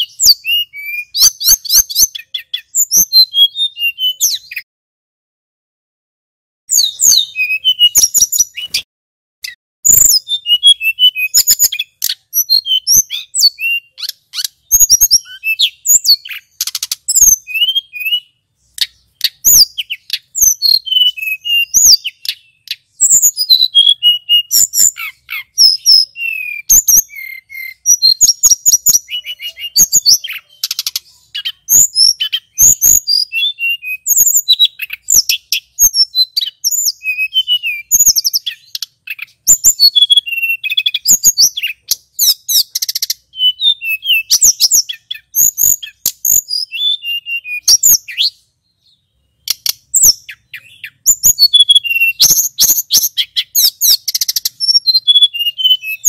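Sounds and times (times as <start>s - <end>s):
flycatcher singing: 0.0s - 4.6s, 6.7s - 56.0s.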